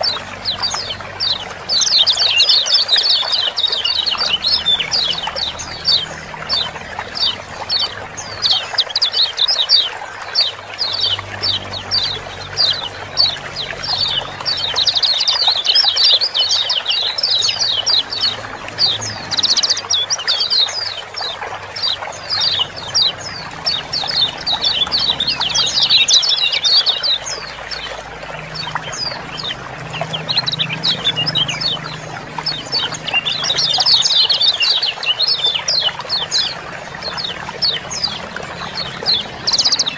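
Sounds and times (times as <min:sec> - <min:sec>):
birds chirping rapidly: 0:00.0 - 0:39.9
trickle of running water: 0:00.0 - 0:39.9.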